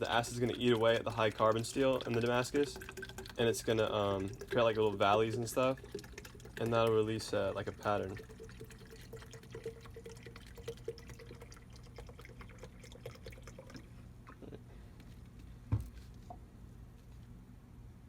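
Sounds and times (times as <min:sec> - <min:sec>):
liquid pouring and dripping: 0:00.0 - 0:14.6.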